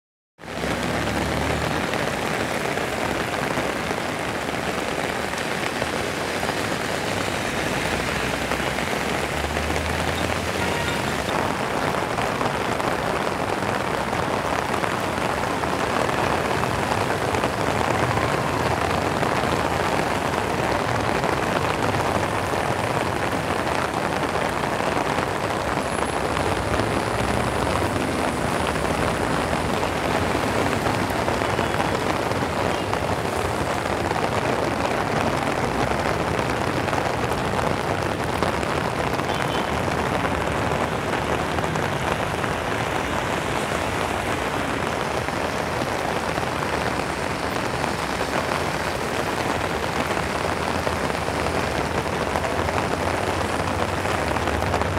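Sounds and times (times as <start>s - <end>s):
heavy rain on road: 0.4s - 54.9s
vehicles driving through water: 0.4s - 54.9s.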